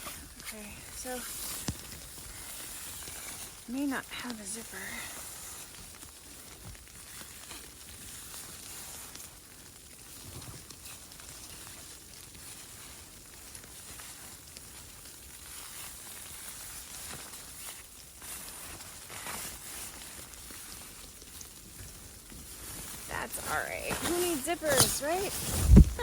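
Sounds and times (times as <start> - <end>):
faint rustles: 0.0 - 26.0
snow and sleet hissing on tent: 0.0 - 26.0.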